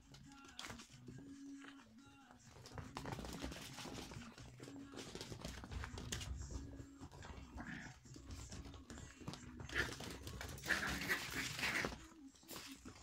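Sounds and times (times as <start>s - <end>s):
puppies scuffling on floor: 0.0s - 13.0s.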